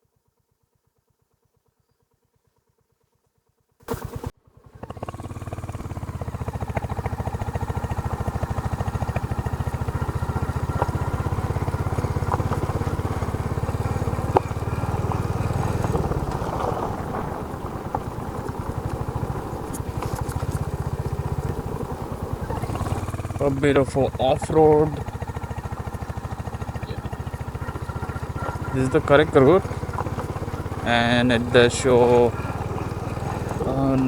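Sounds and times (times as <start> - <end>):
motorcycle engine thumping: 3.8 - 34.0.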